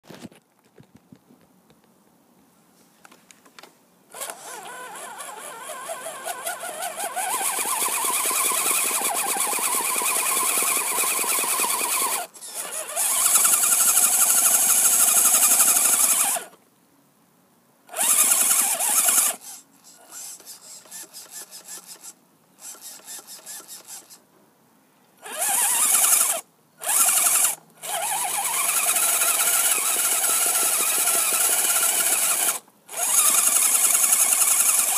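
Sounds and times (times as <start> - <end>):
toy truck electric motor whining: 4.1 - 16.6, 17.9 - 24.2, 25.2 - 34.9.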